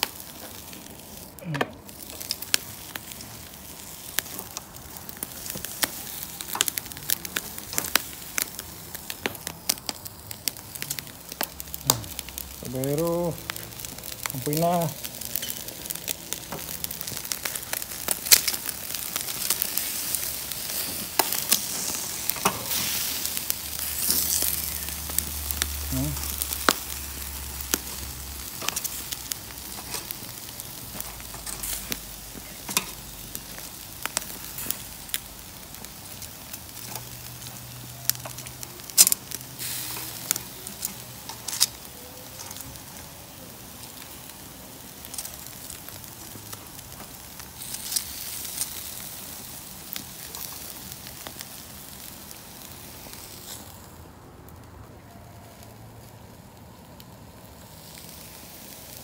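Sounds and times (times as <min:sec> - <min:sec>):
meat sizzling on grill: 0:00.0 - 0:59.0.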